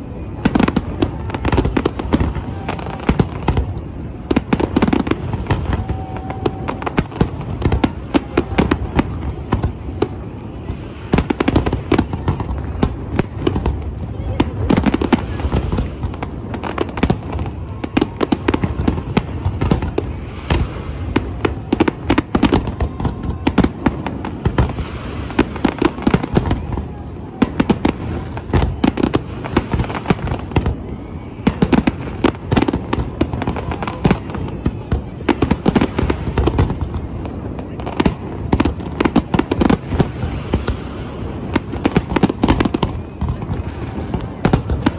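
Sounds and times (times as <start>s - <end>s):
fireworks bursting with sharp bangs: 0.0s - 44.9s.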